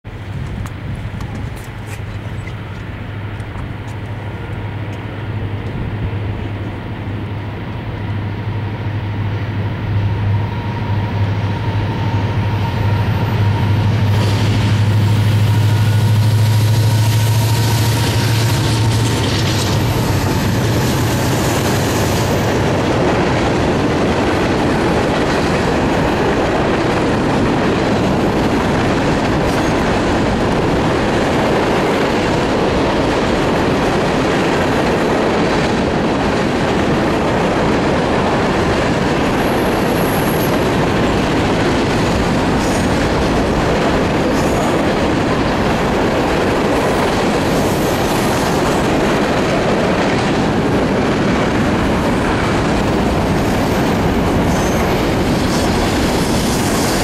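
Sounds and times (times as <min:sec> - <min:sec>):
locomotive engine drone: 0:00.1 - 0:57.0
train wheels clattering on rail: 0:00.1 - 0:57.0.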